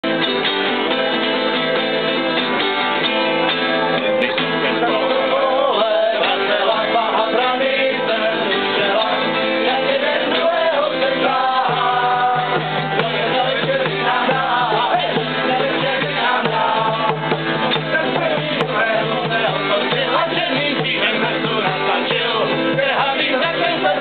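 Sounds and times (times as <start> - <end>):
acoustic guitars playing chords: 0.0 - 24.0.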